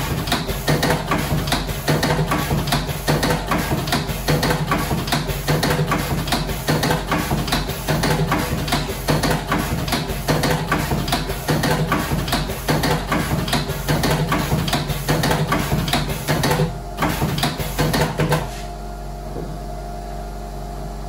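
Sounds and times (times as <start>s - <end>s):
rapid mechanical clacking: 0.0s - 18.4s
steady motor hum: 0.0s - 21.0s.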